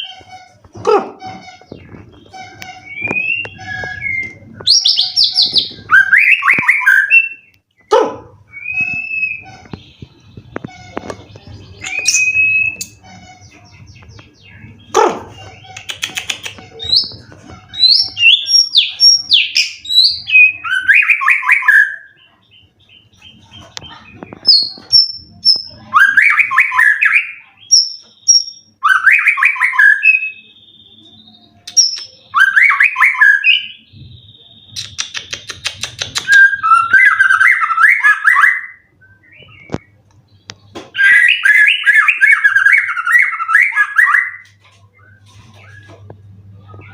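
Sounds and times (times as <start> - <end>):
songbird whistling and chattering: 1.4 - 40.0, 40.9 - 46.0.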